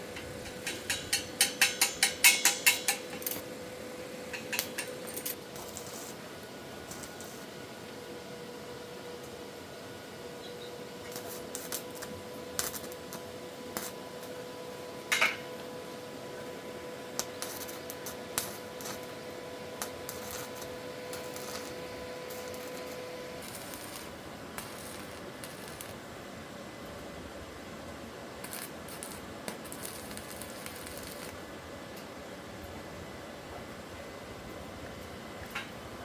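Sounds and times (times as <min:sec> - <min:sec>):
faint hum: 0:00.0 - 0:36.0.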